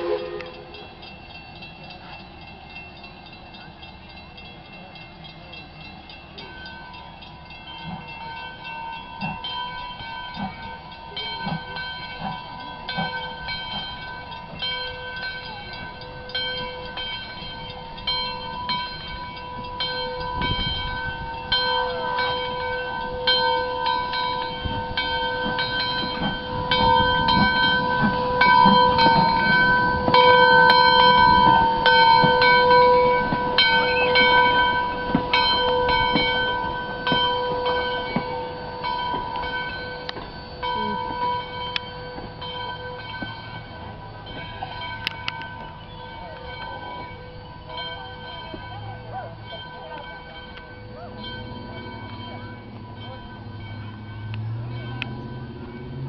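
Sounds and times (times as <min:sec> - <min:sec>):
bell ringing: 0:00.0 - 0:56.0
steam locomotive rumble and exhaust: 0:00.0 - 0:56.0.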